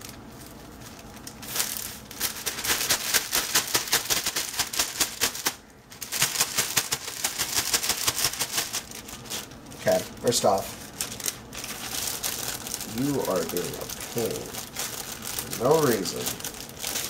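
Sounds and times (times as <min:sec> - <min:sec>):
plastic bag shaken rattling: 0:00.0 - 0:17.0.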